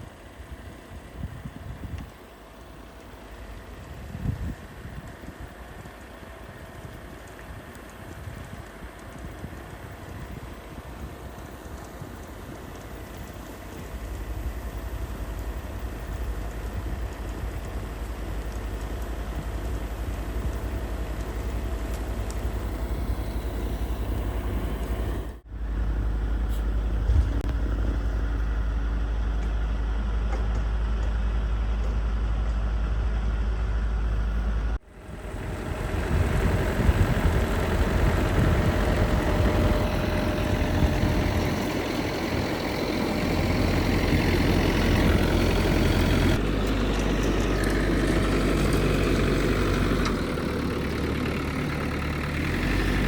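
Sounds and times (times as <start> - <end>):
snowblower engine running: 2.3 - 53.0.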